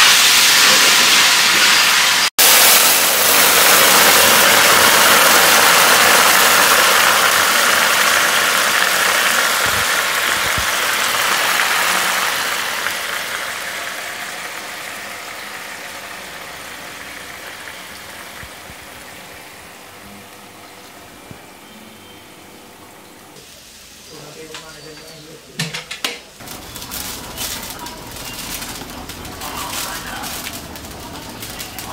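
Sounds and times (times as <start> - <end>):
wok sizzling: 0.0 - 31.9.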